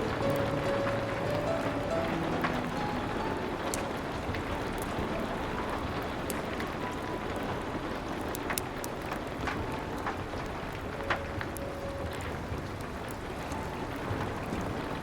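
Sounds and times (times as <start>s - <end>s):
steady rain hiss: 0.0s - 15.0s
wood fire crackling and popping: 0.0s - 15.0s.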